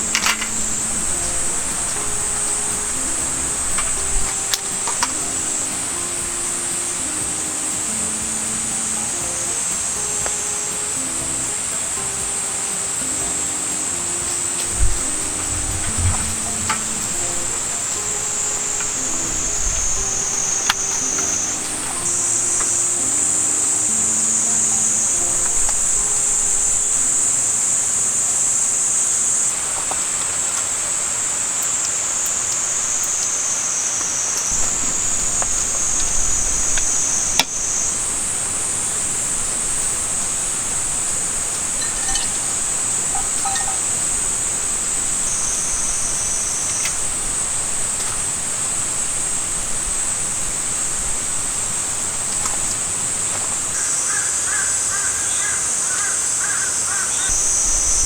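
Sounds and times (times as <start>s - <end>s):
bird calling: 0.0s - 27.5s, 32.8s - 58.0s
cicadas buzzing: 0.0s - 58.0s.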